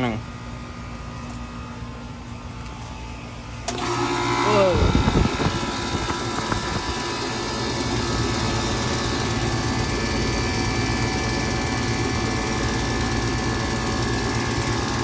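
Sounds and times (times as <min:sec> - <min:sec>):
air conditioning unit humming: 0:00.0 - 0:15.0.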